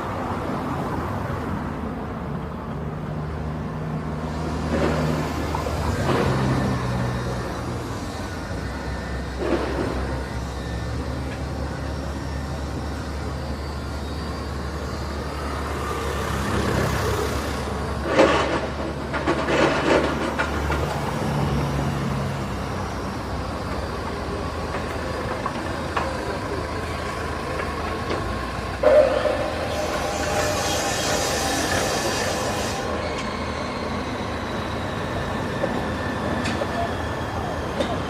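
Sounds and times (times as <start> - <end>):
large vehicle rumbling: 0.0 - 38.0.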